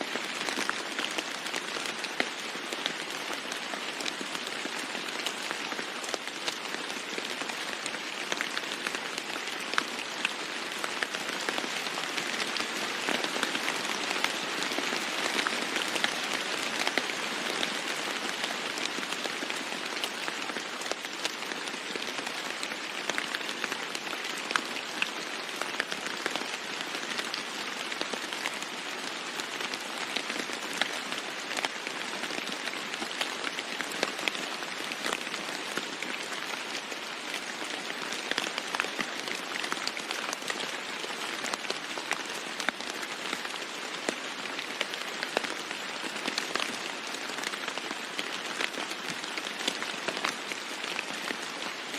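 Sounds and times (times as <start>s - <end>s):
heavy rain on a roof: 0.0s - 51.9s.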